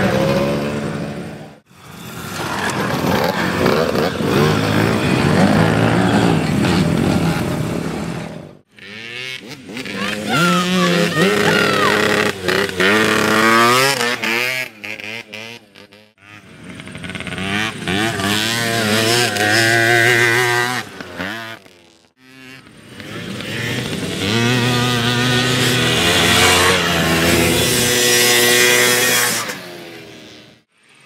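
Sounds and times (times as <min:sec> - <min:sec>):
quad engines revving: 0:00.0 - 0:31.0.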